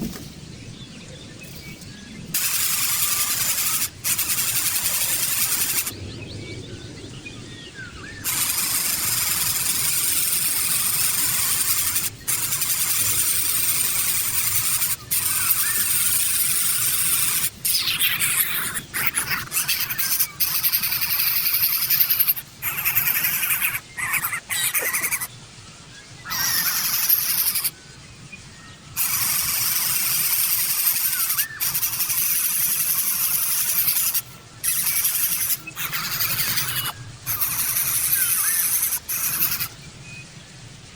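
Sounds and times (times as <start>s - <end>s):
faint bird chirps: 0.0s - 40.5s
high-pitched hiss: 2.4s - 5.9s, 8.2s - 25.3s, 26.3s - 27.8s, 29.0s - 39.8s.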